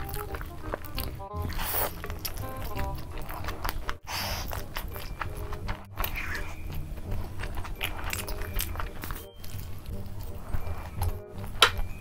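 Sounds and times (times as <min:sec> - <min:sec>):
biting and chewing food: 0:00.0 - 0:12.0.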